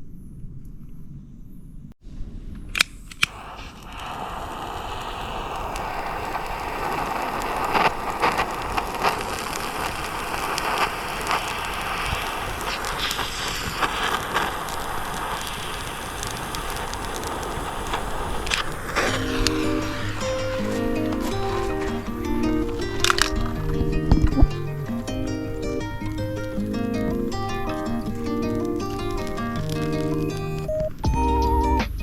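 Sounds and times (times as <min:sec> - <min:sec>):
fire crackling and popping: 0:02.7 - 0:32.0
flame hissing: 0:03.1 - 0:30.7.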